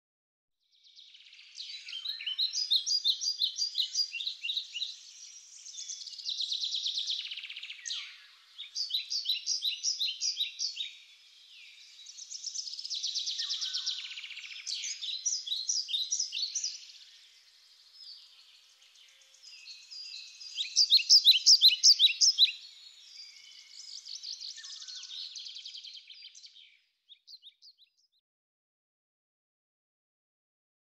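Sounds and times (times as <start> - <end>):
songbird singing: 0.9 - 28.2.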